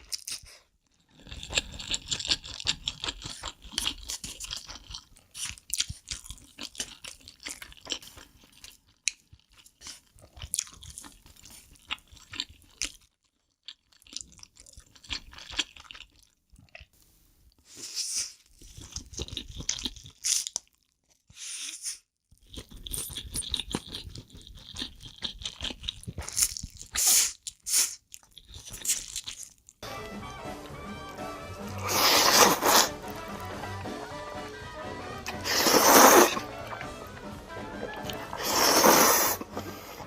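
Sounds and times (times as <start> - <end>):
chewing noodles close up: 0.0 - 17.0, 17.8 - 29.8, 31.6 - 33.4, 35.2 - 40.0.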